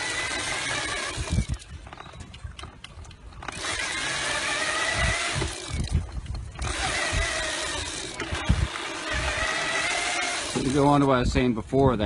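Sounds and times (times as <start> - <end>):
electric motor whining: 0.0 - 2.2, 3.4 - 11.1.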